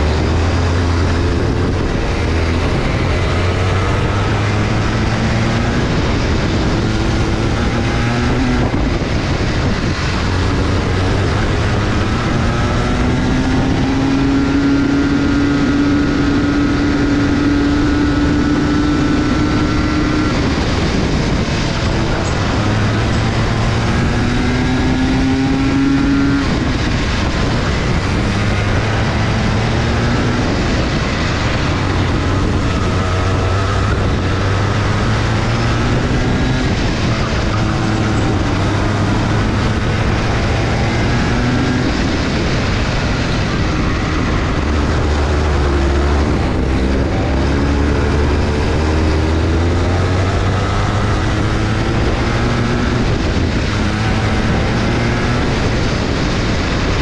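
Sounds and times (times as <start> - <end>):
constant rushing noise: 0.0 - 57.0
go-kart engine accelerating: 0.0 - 57.0.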